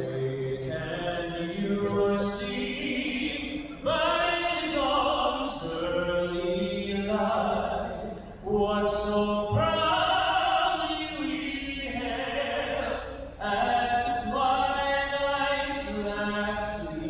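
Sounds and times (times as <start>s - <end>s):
amplified singing echoing: 0.0s - 17.0s.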